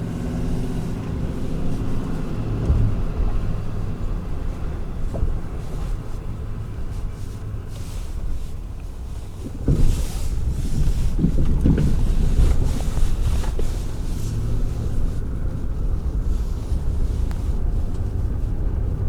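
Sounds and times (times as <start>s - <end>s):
knocks and rattles over bumps: 0.0s - 19.0s
truck engine and tyres rumbling: 0.0s - 19.0s.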